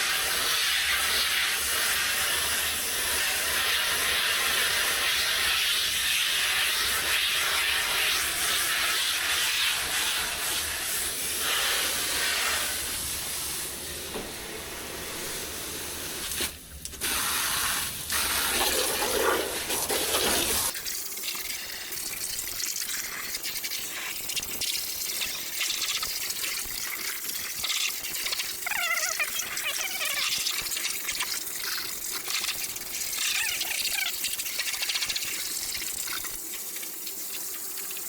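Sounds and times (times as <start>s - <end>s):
hose water spraying on metal unit: 0.0s - 38.0s.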